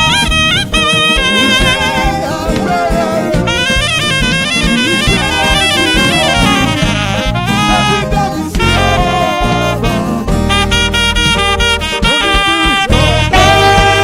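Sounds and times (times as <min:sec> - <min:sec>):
upbeat band music: 0:00.0 - 0:14.0.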